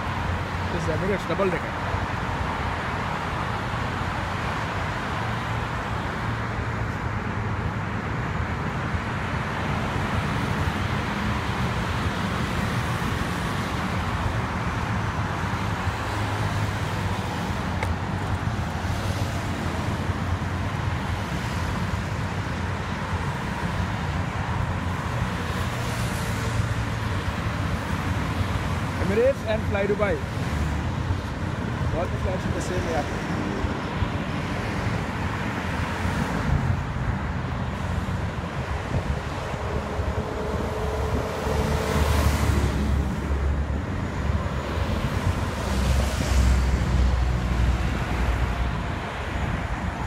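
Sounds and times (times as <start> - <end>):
road traffic: 0.0 - 50.0.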